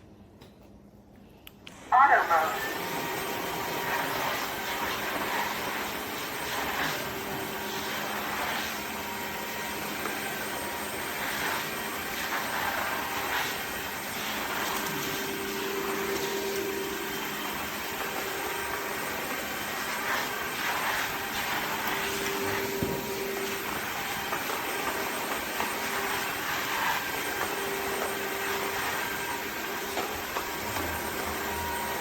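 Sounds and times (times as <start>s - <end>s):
vacuum mop motor whirring: 2.4s - 32.0s.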